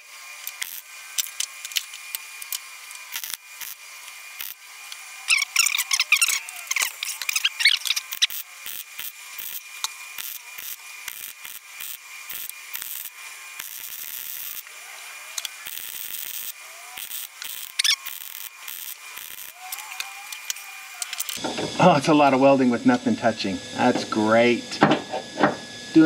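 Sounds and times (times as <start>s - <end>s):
arc welding crackle: 0.0s - 26.0s.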